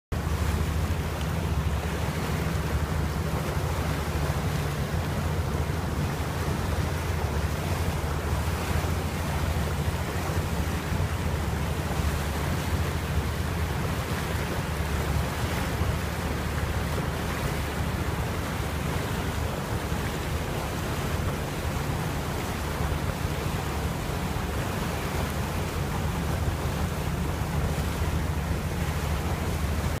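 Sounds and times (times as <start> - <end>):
steady low rumble: 0.1 - 30.0
water washing against hull: 0.1 - 30.0.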